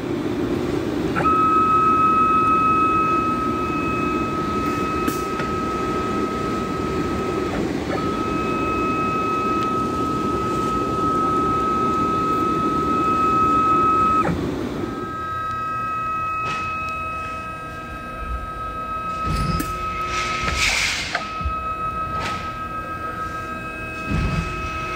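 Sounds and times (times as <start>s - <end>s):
high-pitched machine whine: 0.0s - 24.9s
rumbling mechanical noise: 0.0s - 24.9s.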